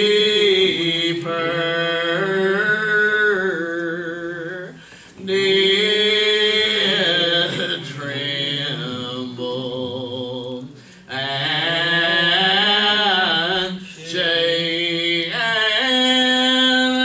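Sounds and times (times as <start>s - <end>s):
slow hymn singing: 0.0s - 17.0s.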